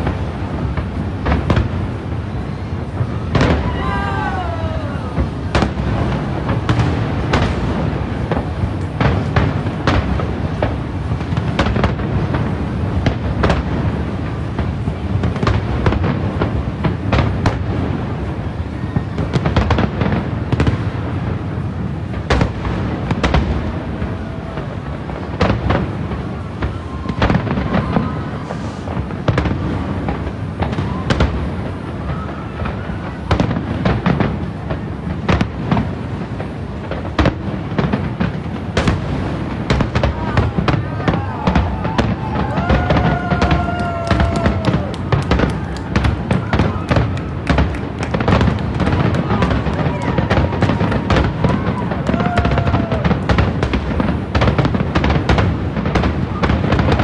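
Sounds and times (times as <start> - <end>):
firework shells bursting: 0.0 - 18.0, 22.1 - 57.0
firework crackle: 0.0 - 57.0.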